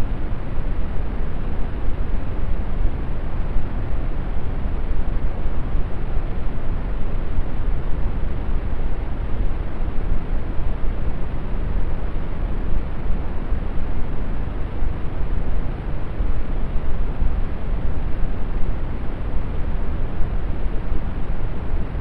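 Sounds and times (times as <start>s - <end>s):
brown noise hiss: 0.0s - 22.0s.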